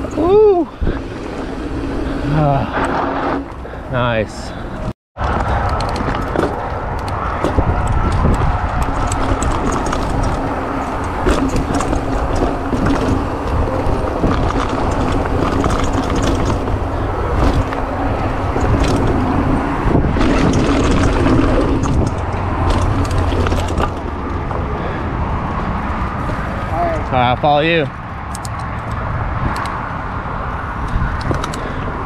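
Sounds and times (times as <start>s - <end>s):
bike rattling and clicking: 0.0s - 32.0s
wind rumble on microphone: 0.0s - 32.0s.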